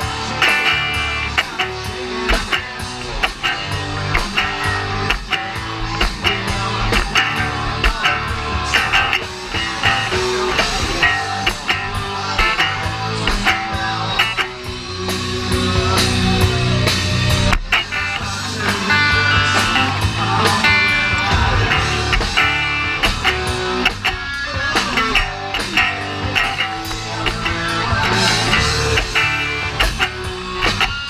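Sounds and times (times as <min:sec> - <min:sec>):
bass guitar: 0:00.0 - 0:31.0
rock guitar: 0:00.0 - 0:31.0
drum hits: 0:00.5 - 0:14.5, 0:17.4 - 0:31.0.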